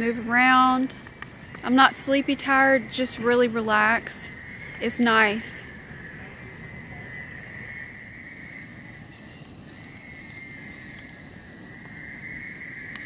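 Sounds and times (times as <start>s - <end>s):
frogs trilling: 0.0s - 13.0s
wood fire crackling: 0.0s - 13.0s.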